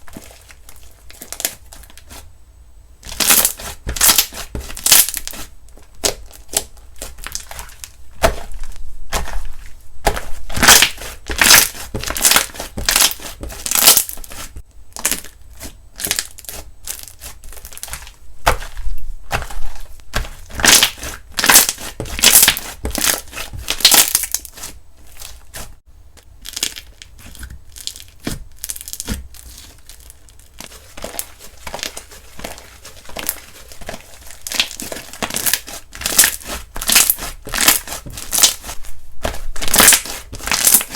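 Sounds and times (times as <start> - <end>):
slime squished by hand: 3.0 - 25.7, 26.4 - 40.9.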